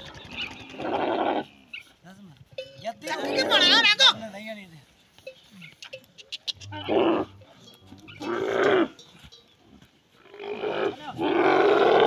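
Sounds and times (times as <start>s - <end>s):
camels calling harshly: 0.0s - 2.0s, 3.0s - 4.4s, 5.3s - 12.0s.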